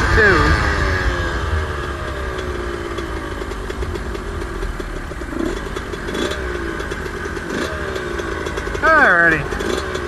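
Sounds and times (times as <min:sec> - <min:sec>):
two-stroke engine idling: 0:00.0 - 0:10.0.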